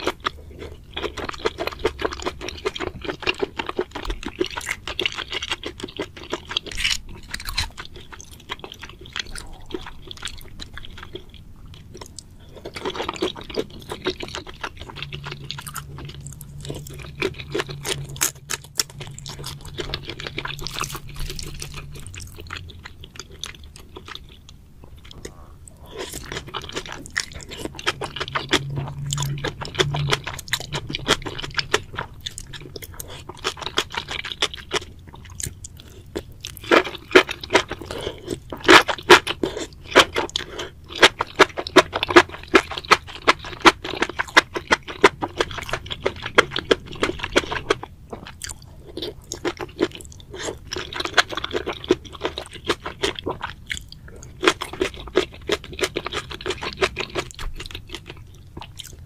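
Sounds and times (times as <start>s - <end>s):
wet chewing smacks and crunches: 0.0s - 59.0s.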